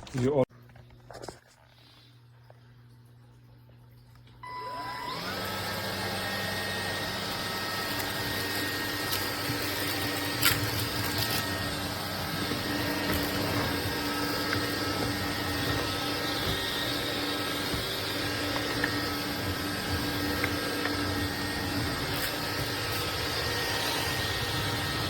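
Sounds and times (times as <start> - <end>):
vacuum motor whine: 4.4 - 25.0.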